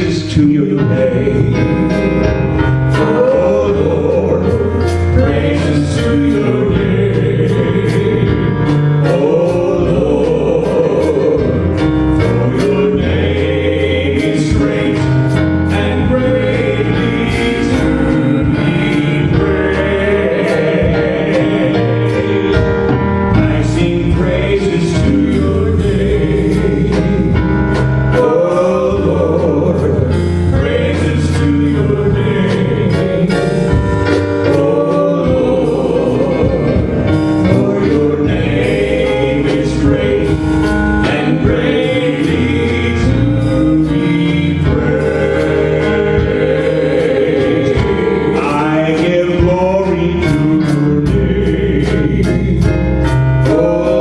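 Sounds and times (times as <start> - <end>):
choir singing gospel music: 0.0 - 54.0
full band with steady beat: 0.0 - 54.0.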